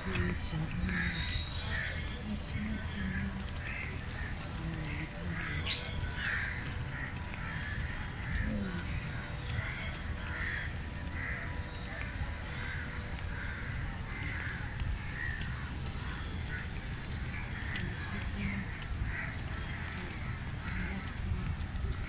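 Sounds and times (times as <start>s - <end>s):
crows cawing: 0.2s - 2.1s, 2.7s - 22.0s.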